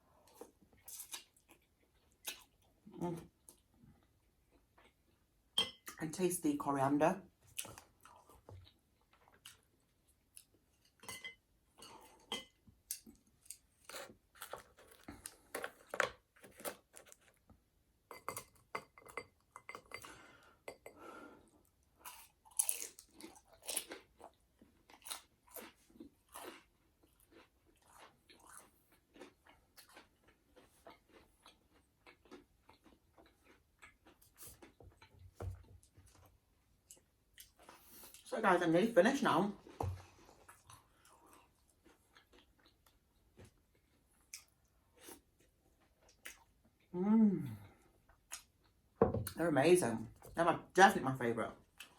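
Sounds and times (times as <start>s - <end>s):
person chewing food: 0.0s - 5.9s, 7.5s - 38.3s, 39.6s - 48.9s, 51.6s - 51.9s.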